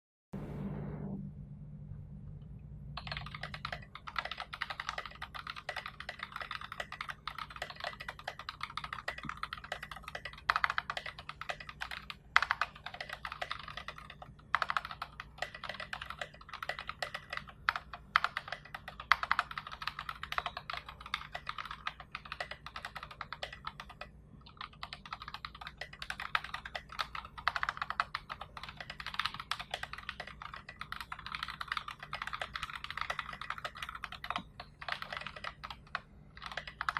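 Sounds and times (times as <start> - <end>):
mechanical keyboard typing: 3.0 - 36.9.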